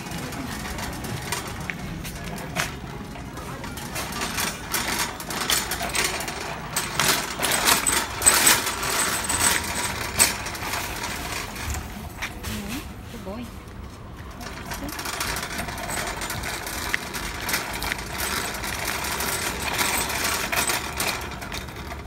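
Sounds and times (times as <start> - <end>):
metal basket rattling: 0.0 - 12.9, 14.3 - 22.0
shopping cart wheels rolling: 0.0 - 22.0.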